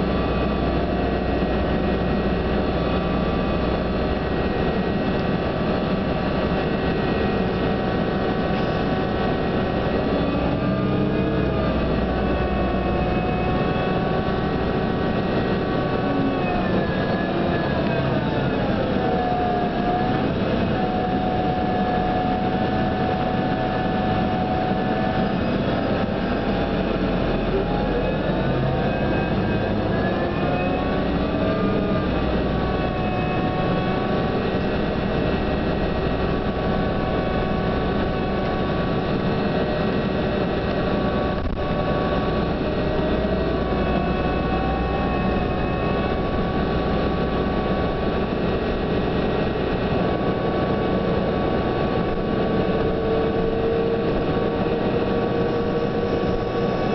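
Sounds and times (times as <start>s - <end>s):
bus running noise: 0.0s - 56.9s
whining tones gliding up: 0.0s - 56.9s.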